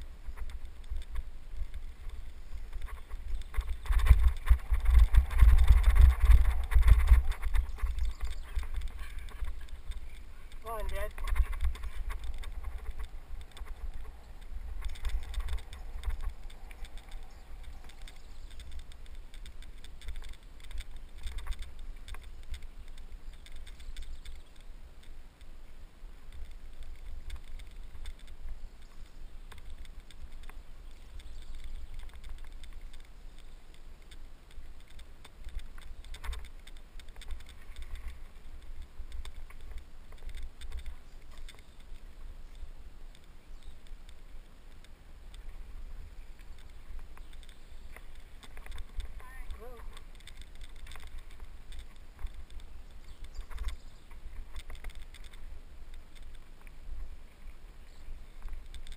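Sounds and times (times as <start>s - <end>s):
bike rattles and clicks: 0.0s - 58.9s
wind rumbling on microphone: 0.0s - 58.9s.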